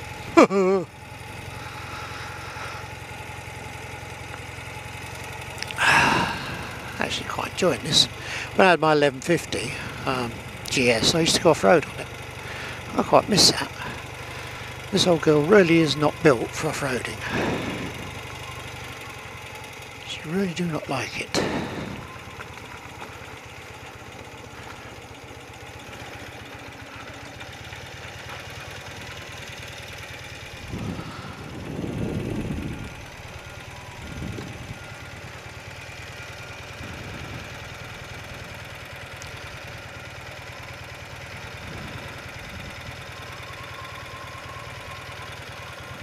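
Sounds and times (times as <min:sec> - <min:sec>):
motorcycle engine idling: 0:00.0 - 0:46.0.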